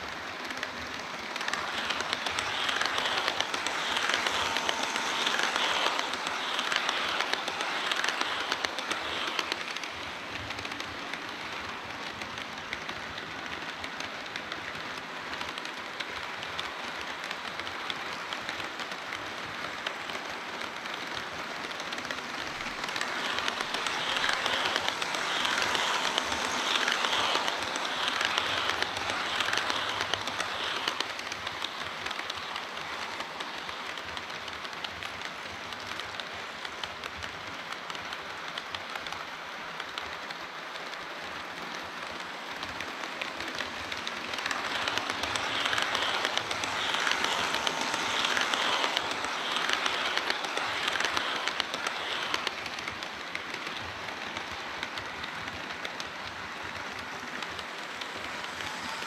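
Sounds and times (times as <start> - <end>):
model train wheels rattling: 0.0 - 59.0.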